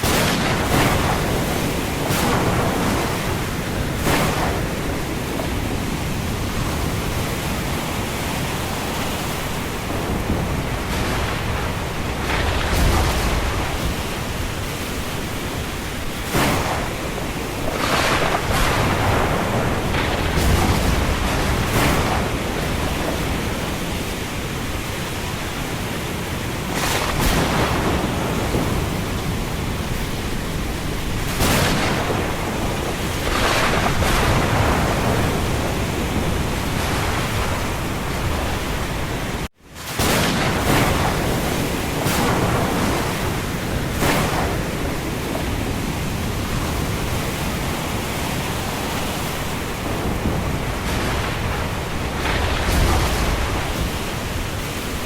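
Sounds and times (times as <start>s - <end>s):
wind and rain storm rushing: 0.0s - 55.0s.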